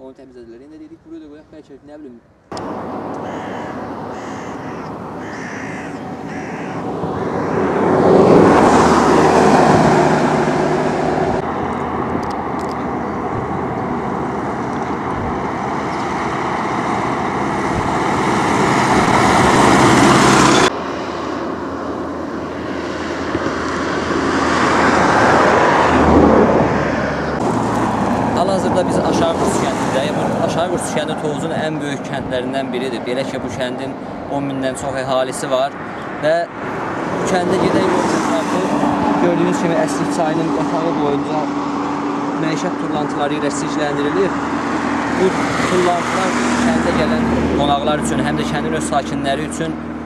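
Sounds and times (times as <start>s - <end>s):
road traffic passing: 0.0s - 50.0s.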